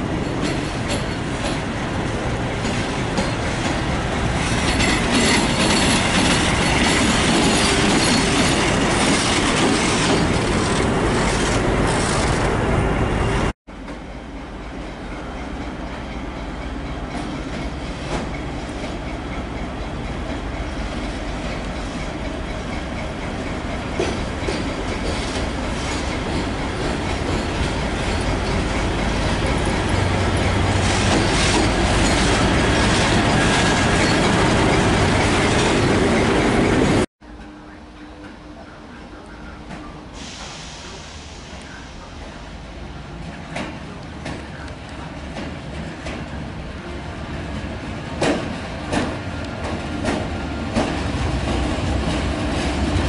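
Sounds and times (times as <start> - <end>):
diesel locomotive engine rumbling: 0.0 - 53.0
train wheels on rails: 0.0 - 53.0.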